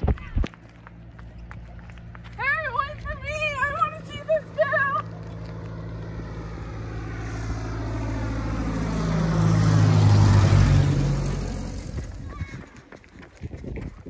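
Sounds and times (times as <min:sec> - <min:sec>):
propeller airplane flying overhead: 0:00.0 - 0:14.0.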